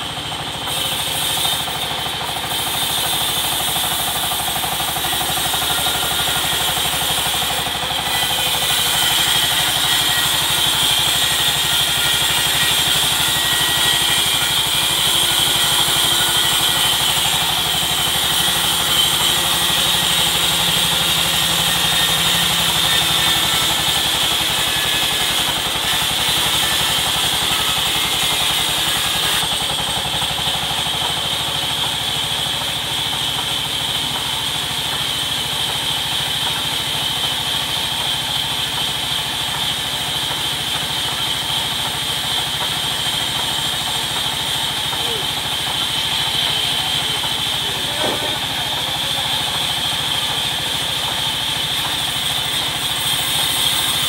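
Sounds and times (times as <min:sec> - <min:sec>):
band saw whine: 0:00.0 - 0:54.0
saw rasping through log: 0:00.0 - 0:54.0.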